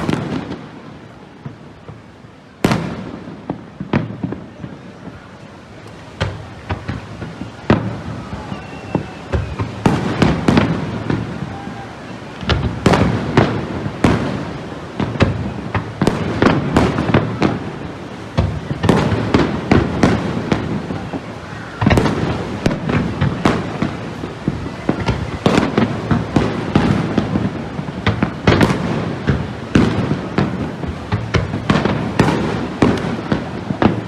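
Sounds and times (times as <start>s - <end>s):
fireworks bursts and crackling bangs: 0.0s - 34.0s.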